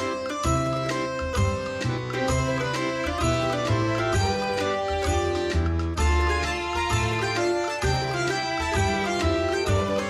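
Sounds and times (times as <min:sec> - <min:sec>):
sustained melody: 0:00.0 - 0:10.0.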